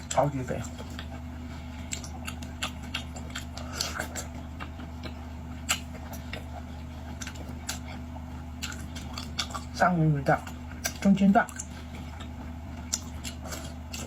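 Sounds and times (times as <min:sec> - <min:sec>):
chewing: 0:00.0 - 0:14.0
steady low hum: 0:00.0 - 0:14.0.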